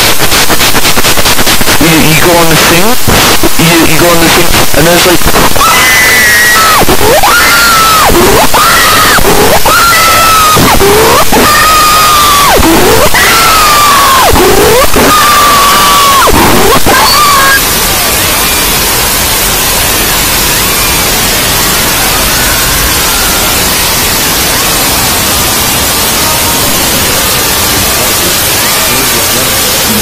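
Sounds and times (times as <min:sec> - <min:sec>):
high-pitched scream: 0:00.0 - 0:30.0
loud static hiss: 0:00.0 - 0:30.0.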